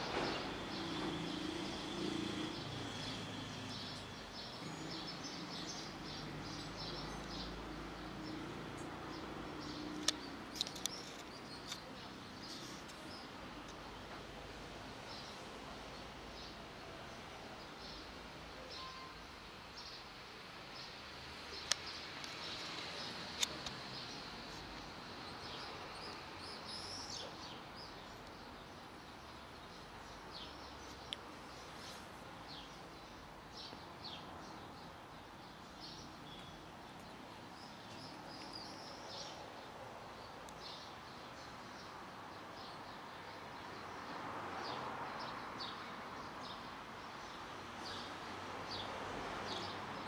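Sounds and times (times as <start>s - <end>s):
small birds chirping: 0.1s - 14.2s, 20.8s - 50.0s.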